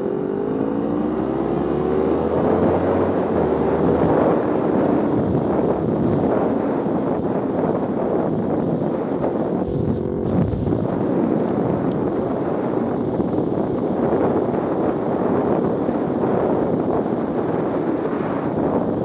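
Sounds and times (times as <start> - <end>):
wind roar over microphone: 0.0 - 19.0.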